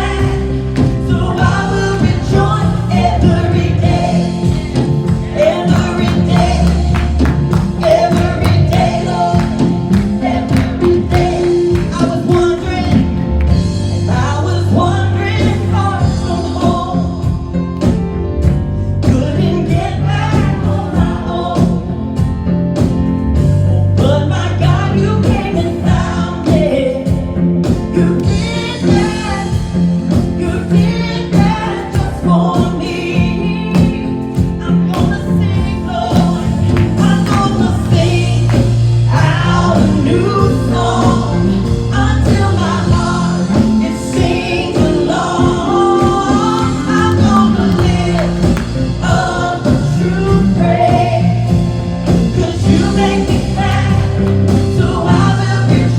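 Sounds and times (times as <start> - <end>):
band playing: 0.0 - 55.9
group singing gospel song: 0.0 - 55.9
held bass notes: 0.0 - 55.9
steady drum beat: 0.0 - 55.9.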